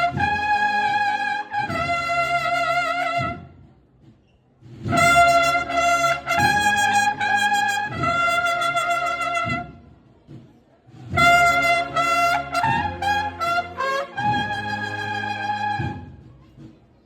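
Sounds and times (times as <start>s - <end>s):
bugle and drum band playing a march: 0.0s - 16.8s.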